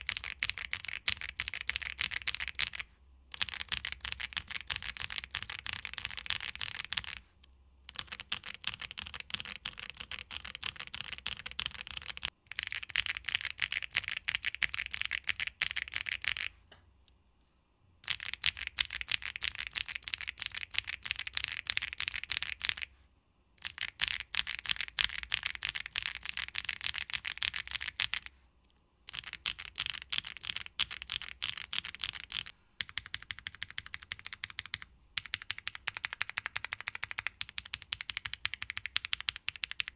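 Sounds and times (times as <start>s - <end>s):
fast mechanical keyboard typing: 0.0s - 7.2s, 7.9s - 16.5s, 18.0s - 22.9s, 23.6s - 28.3s, 29.1s - 39.9s.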